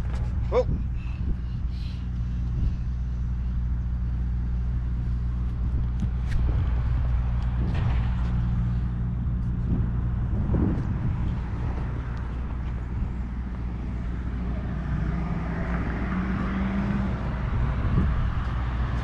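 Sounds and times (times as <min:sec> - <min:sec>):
diesel truck engine idling: 0:00.0 - 0:15.3.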